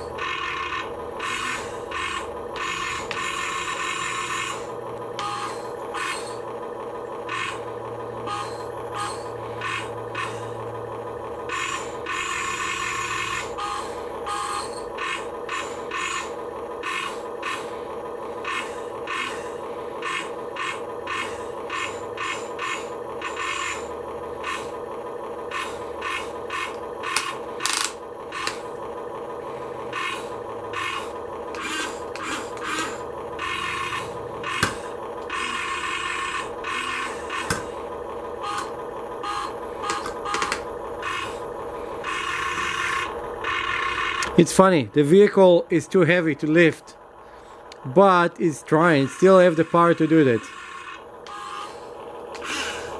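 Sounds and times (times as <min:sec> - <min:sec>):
toy motor and gear hum: 0:00.0 - 0:47.0, 0:47.6 - 0:52.9.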